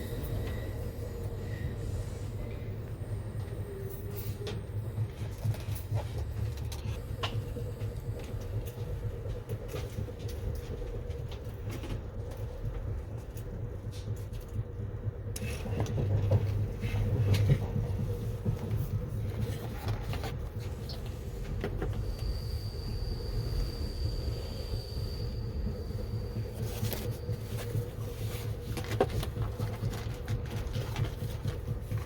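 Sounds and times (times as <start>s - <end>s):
train rolling along track: 0.0s - 32.0s
wheels clicking on rails: 0.0s - 32.0s.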